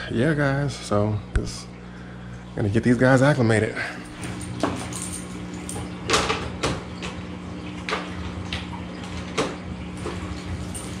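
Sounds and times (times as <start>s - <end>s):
aquarium water splashing: 0.0s - 11.0s
steady low hum: 0.0s - 11.0s.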